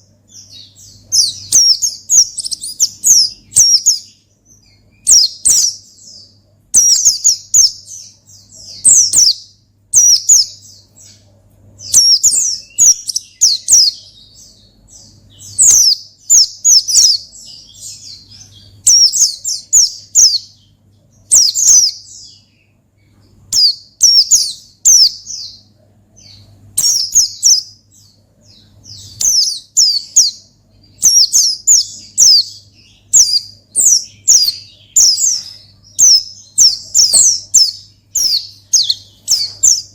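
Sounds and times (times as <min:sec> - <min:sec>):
faint low hum: 0:00.0 - 0:39.9
white-eye bird chirping song: 0:00.0 - 0:39.9.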